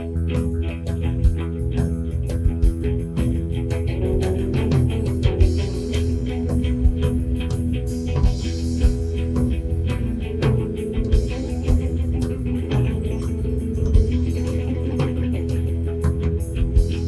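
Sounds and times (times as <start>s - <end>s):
guitar rock music: 0.0s - 17.0s.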